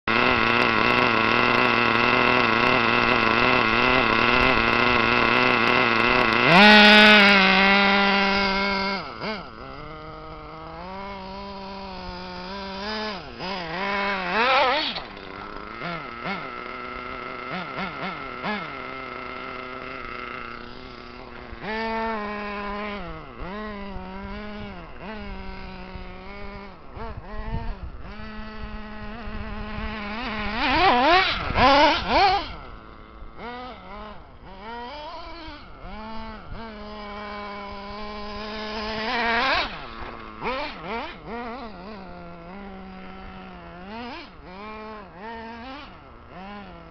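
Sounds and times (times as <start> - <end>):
toy car motor whining: 0.1 - 46.9.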